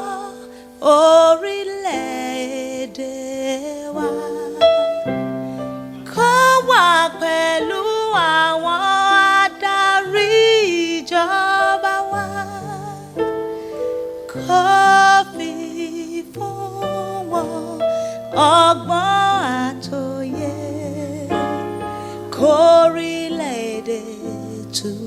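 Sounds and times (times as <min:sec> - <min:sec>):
person singing with vibrato: 0:00.0 - 0:25.0.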